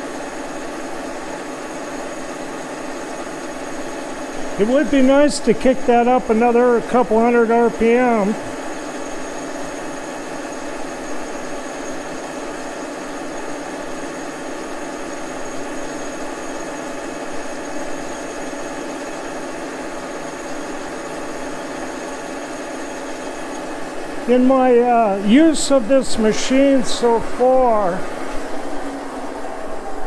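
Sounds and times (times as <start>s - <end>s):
milling machine humming: 0.0s - 30.0s.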